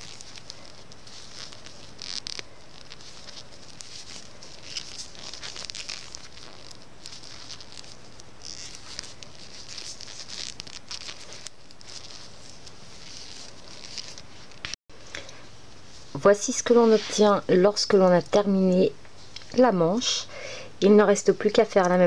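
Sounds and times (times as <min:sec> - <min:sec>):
yarn rustling over needles: 0:00.0 - 0:14.8, 0:15.6 - 0:19.7.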